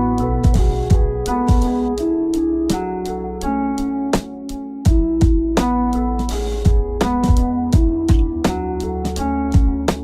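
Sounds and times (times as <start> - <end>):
keyboard music over steady beat: 0.0 - 10.0.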